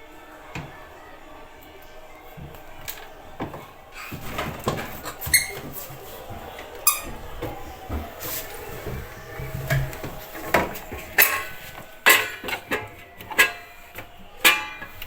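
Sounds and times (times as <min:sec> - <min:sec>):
objects knocking and clattering: 0:02.4 - 0:15.0.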